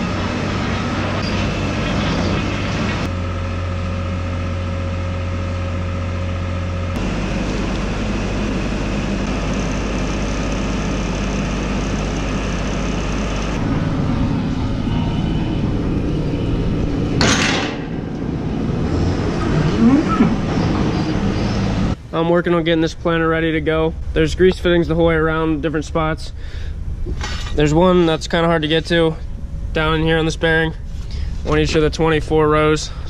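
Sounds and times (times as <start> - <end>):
loader engine running: 0.0 - 33.0.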